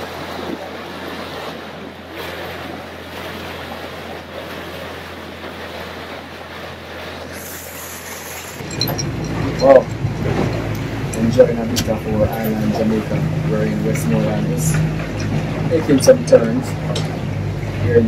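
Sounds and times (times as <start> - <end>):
boat engine hum: 0.0 - 18.0
water rushing along hull: 0.0 - 18.0.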